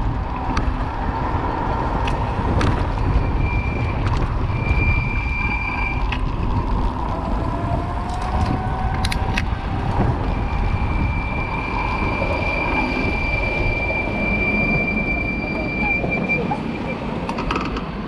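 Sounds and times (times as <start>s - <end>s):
rail vehicle whine: 0.0s - 18.0s
street traffic: 0.0s - 18.0s
wind rumble on microphone: 0.0s - 18.0s.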